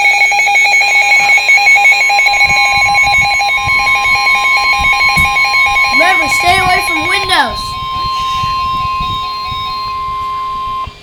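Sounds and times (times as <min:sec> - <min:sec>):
pulsing two-pitch alarm: 0:00.0 - 0:11.0
steady high warning tone: 0:00.0 - 0:11.0.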